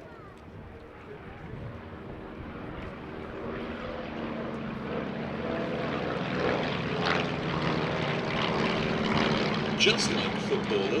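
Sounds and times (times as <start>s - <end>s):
propeller aircraft engines droning: 0.0s - 11.0s.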